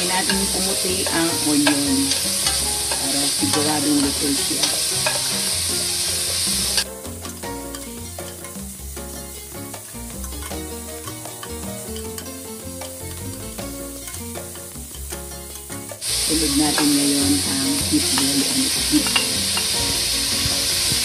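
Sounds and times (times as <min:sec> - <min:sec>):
background music: 0:00.0 - 0:21.0
onions sizzling in a pot: 0:00.0 - 0:21.0.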